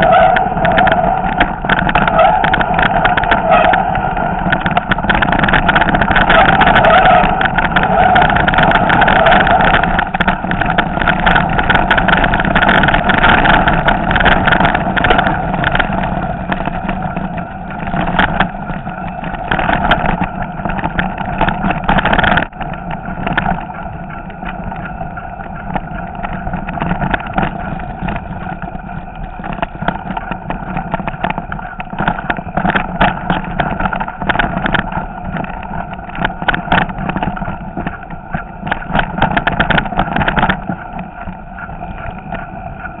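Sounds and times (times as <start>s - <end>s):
mountain bike rattling: 0.0s - 43.0s.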